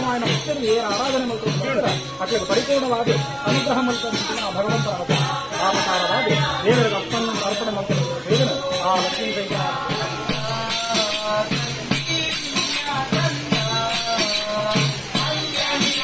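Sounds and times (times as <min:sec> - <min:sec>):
background music with steady beat: 0:00.0 - 0:16.0
jingling percussion: 0:00.0 - 0:16.0.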